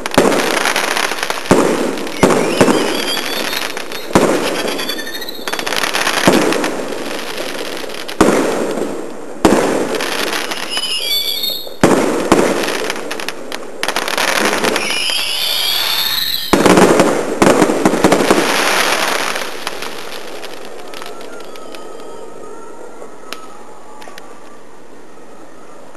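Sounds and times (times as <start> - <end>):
crackling firework bangs: 0.0 - 22.2
firework bangs with echo: 0.0 - 22.2
whistling fireworks: 0.0 - 25.9.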